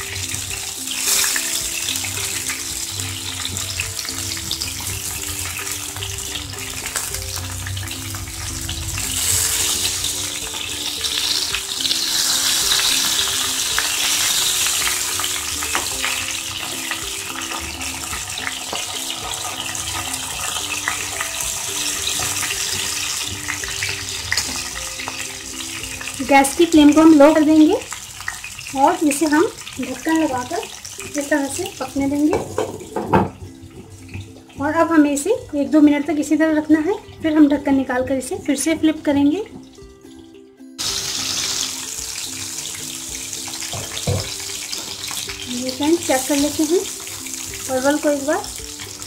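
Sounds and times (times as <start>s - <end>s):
vegetables sizzling in oil: 0.0s - 39.8s, 40.8s - 49.0s
soft background music: 0.0s - 49.0s.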